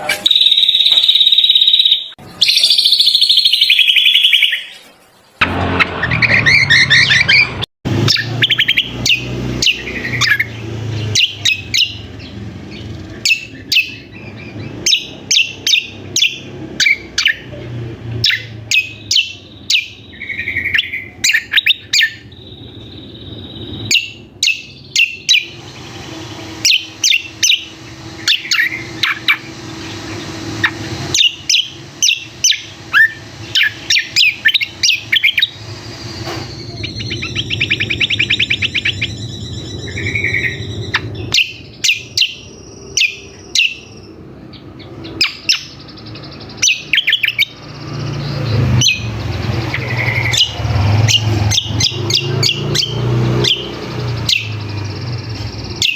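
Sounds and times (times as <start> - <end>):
bird chirping in sharp runs: 0.0 - 4.8, 5.8 - 55.9.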